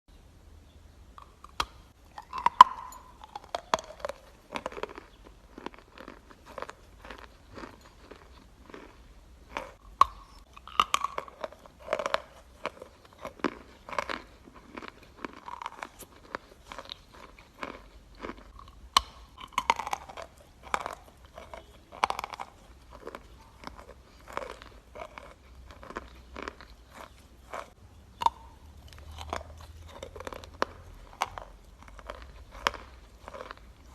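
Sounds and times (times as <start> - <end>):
person chewing chalk crunching: 1.1 - 33.9.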